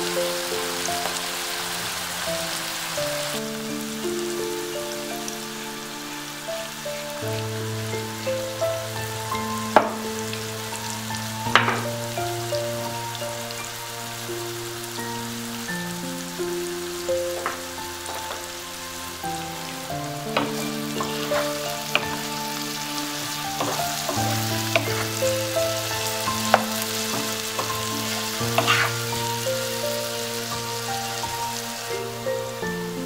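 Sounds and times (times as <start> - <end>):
mushrooms sizzling in a pan: 0.0 - 33.0.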